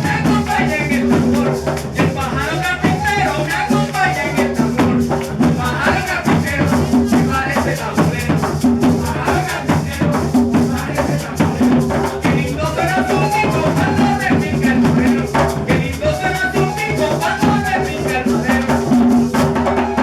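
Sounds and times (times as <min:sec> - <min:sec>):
drums: 0:00.0 - 0:20.0
maracas: 0:00.0 - 0:20.0.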